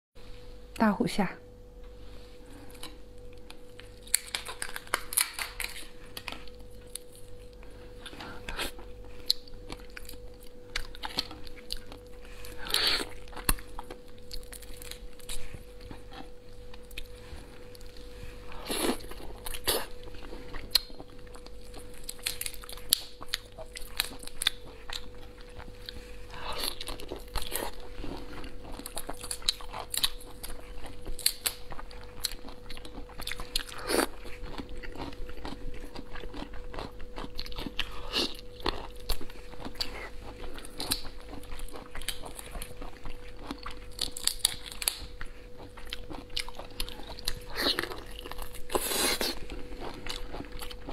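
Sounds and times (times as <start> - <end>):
faint steady hum: 0.2 - 50.9
wet chewing and crunching: 2.5 - 50.9.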